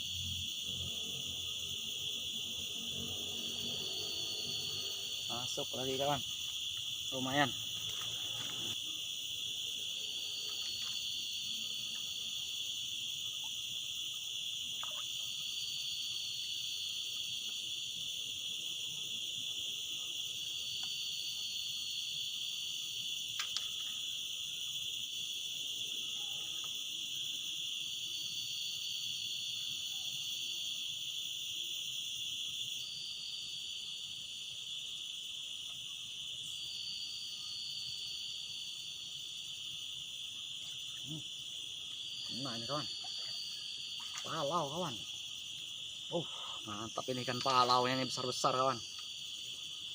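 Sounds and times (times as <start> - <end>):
insect chorus drone: 0.0 - 49.9.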